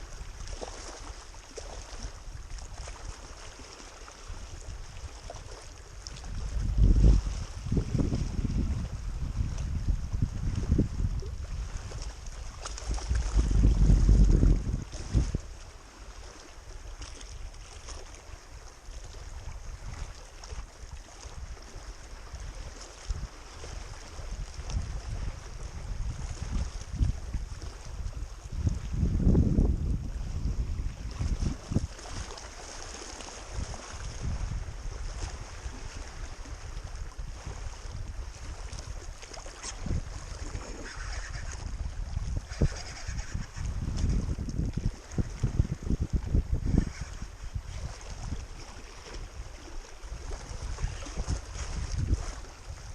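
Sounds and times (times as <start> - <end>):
wind buffeting microphone: 1.8 - 52.9.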